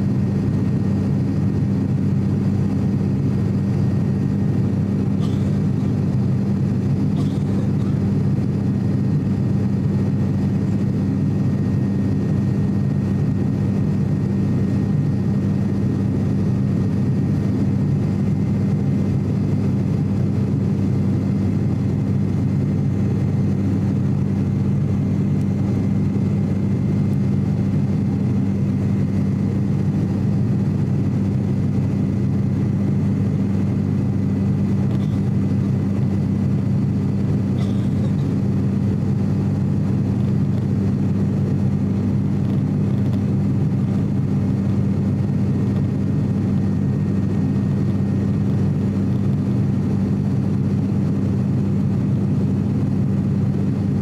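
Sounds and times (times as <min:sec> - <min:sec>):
turboprop cabin drone: 0:00.0 - 0:54.0
faint thin whine: 0:01.8 - 0:54.0.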